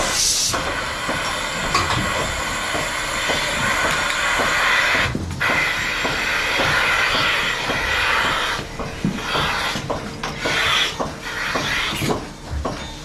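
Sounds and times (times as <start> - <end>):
milking machine vacuum hissing: 0.0 - 12.6.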